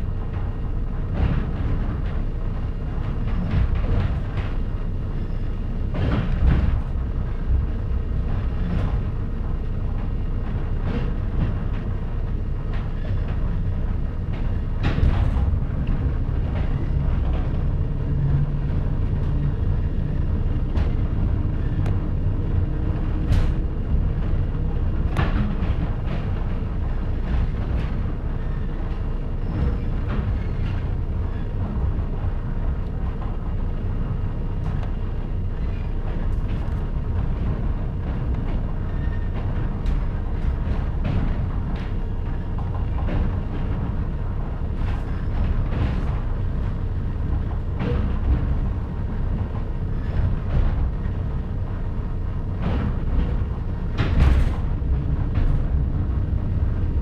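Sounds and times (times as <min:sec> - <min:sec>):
train wheels rumbling on track: 0:00.0 - 0:57.0
wheels clacking over rail joints: 0:00.0 - 0:57.0.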